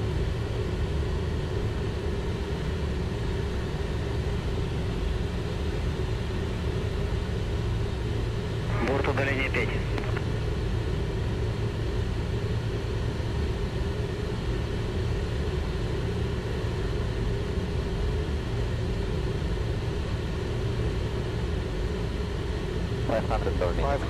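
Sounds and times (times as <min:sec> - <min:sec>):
jet cockpit rumble: 0:00.0 - 0:24.0.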